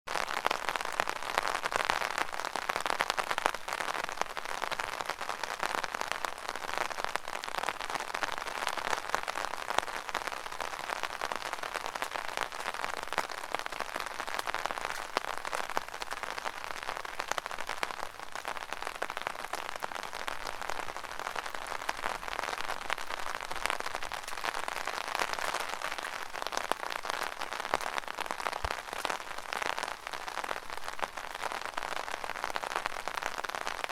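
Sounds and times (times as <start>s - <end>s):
rain pattering on an umbrella: 0.1s - 33.9s.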